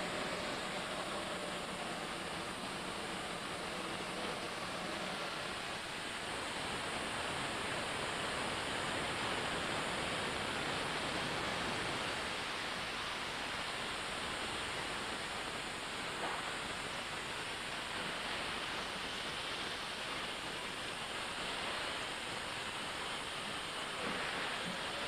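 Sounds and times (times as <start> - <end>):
steam hissing from locomotive: 0.0 - 25.0.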